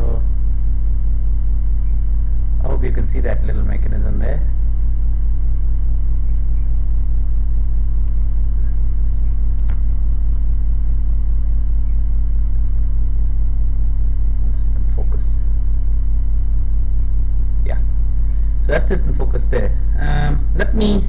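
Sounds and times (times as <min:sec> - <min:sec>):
deep electrical hum: 0:00.0 - 0:21.0.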